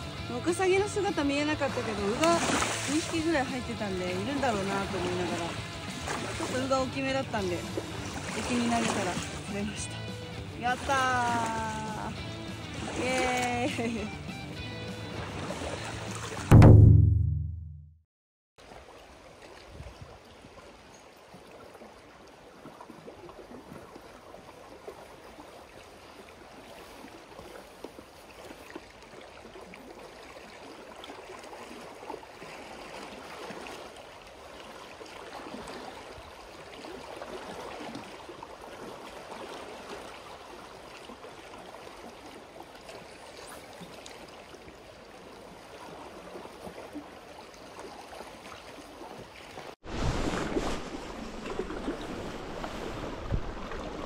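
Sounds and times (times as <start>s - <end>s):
waves lapping against rocks: 0.0s - 9.9s, 10.6s - 14.0s, 18.6s - 54.0s.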